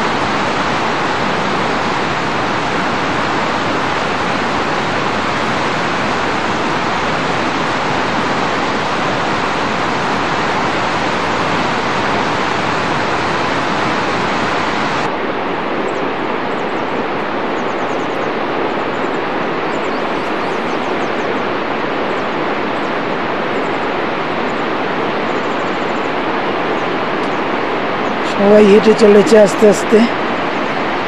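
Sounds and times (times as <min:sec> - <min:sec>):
river rushing water roar: 0:00.0 - 0:31.0.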